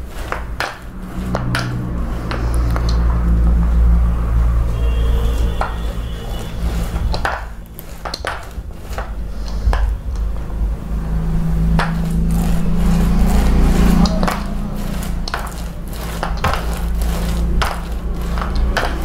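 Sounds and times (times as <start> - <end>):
paint roller in wet coating: 0.0 - 19.0
steady low hum: 0.0 - 19.0.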